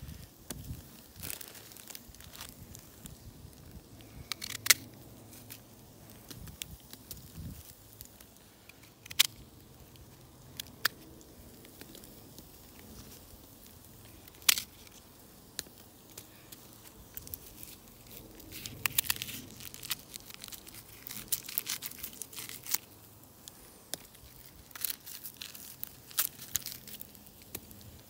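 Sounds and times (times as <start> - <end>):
onion skin crackling: 0.0 - 28.0.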